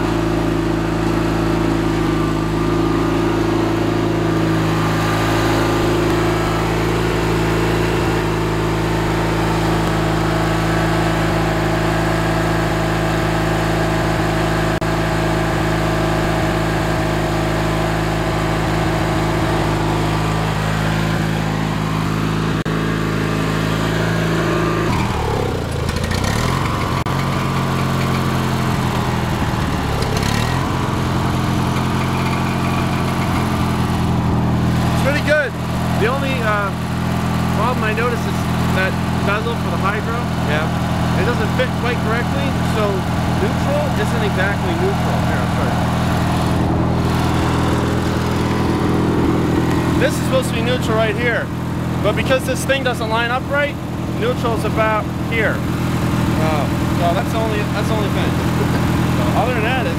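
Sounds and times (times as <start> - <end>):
lawn tractor engine running: 0.0 - 59.9.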